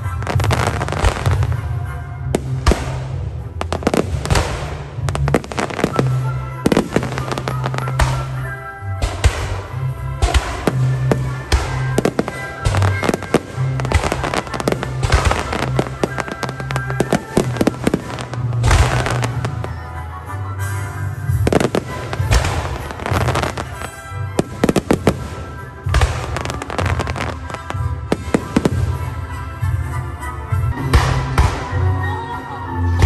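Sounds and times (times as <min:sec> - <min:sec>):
fireworks bursting with booms: 0:00.0 - 0:19.8, 0:20.8 - 0:29.9.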